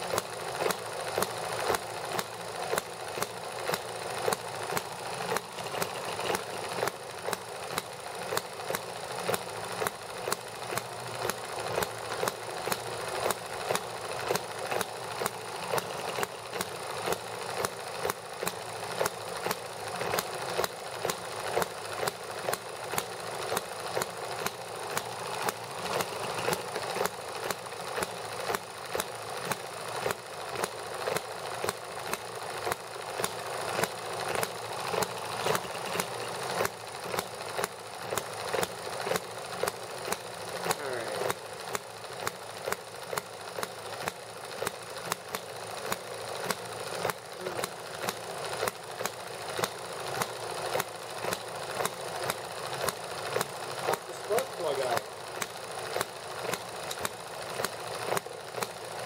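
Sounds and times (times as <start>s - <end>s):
small model engine running: 0.0s - 59.0s.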